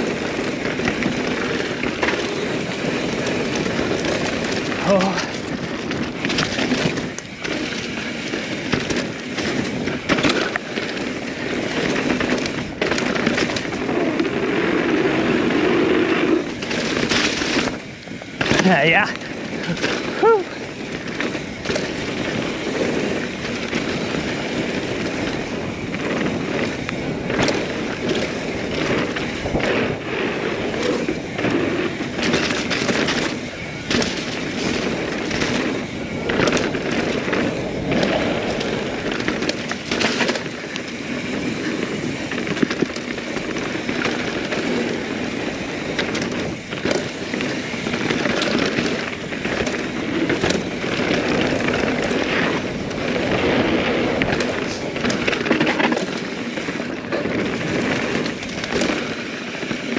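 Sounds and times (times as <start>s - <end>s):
bike knocking on roots and rocks: 0.0s - 59.9s
bike tyres crunching on dirt: 0.0s - 59.9s.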